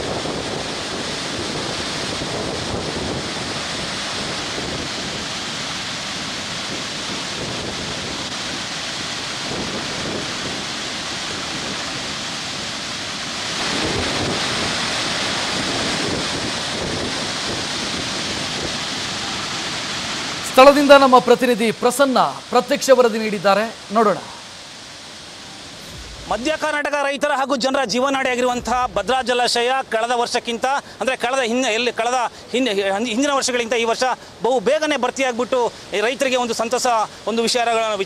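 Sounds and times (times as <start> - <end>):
floodwater rushing: 0.0 - 31.2.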